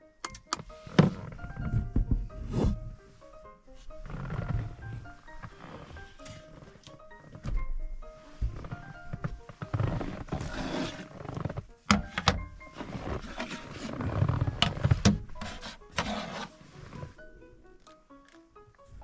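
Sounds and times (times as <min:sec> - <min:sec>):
quiet background music: 0:00.0 - 0:19.0
rustling handling noise: 0:00.6 - 0:18.4.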